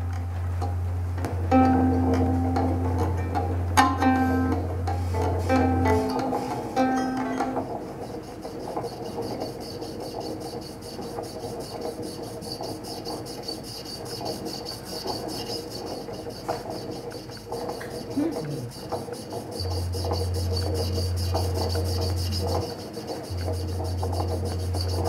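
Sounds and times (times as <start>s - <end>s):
fast rasping scratch: 4.9s - 25.0s.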